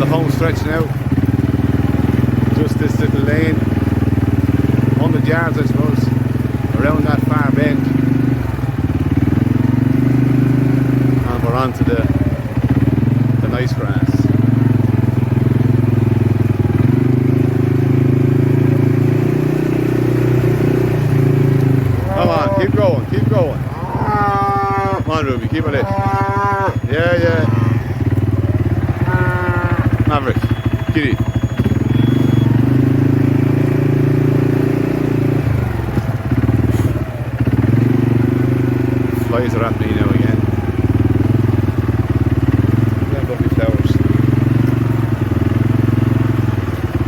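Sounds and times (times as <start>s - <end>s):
small engine running at low revs: 0.0s - 47.0s.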